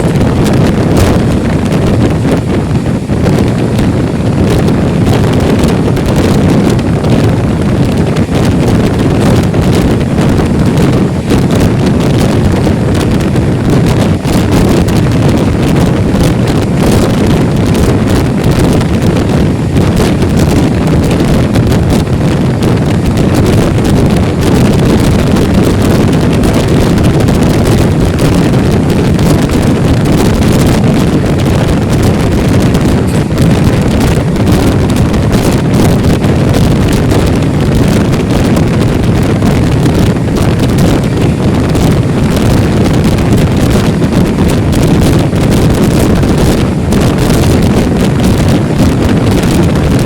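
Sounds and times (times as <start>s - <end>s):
train rumbling: 0.0s - 50.0s
wind buffeting microphone: 0.0s - 50.0s.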